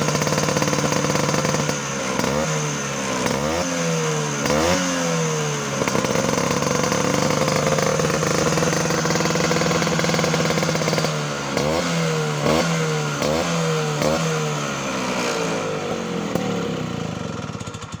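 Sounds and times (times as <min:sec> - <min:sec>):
scooter engine revving: 0:00.0 - 0:18.0.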